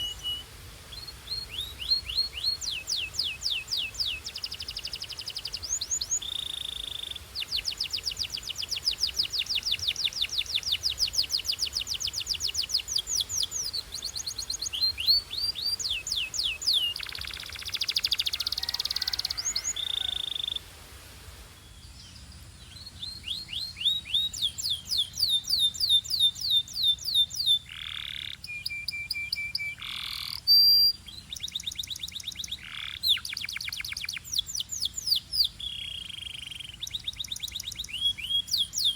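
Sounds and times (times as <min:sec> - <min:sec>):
canary singing trills: 0:00.0 - 0:20.6, 0:22.1 - 0:38.9.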